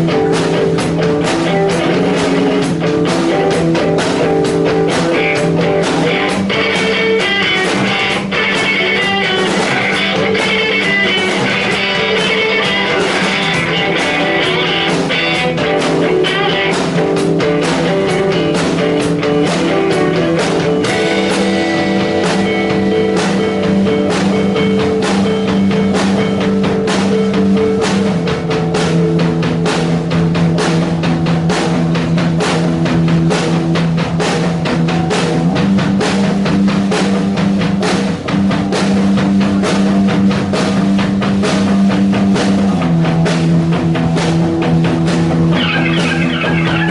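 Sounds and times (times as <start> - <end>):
drum kit: 0.0 - 46.9
guitars: 0.0 - 46.9.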